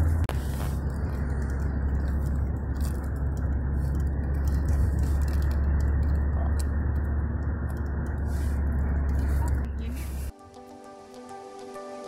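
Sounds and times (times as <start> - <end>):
car cabin road and engine rumble: 0.0 - 10.4.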